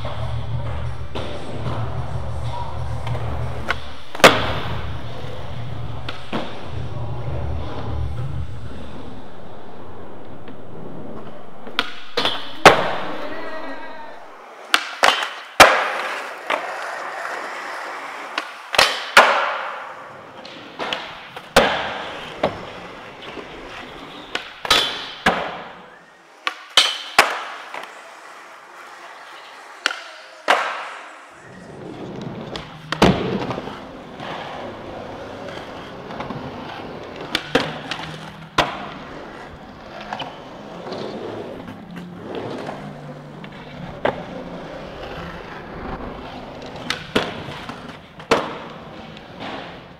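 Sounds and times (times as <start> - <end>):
skateboard clacks: 0.0 - 6.8, 14.4 - 49.9
skateboard wheels rolling on concrete: 0.0 - 49.9.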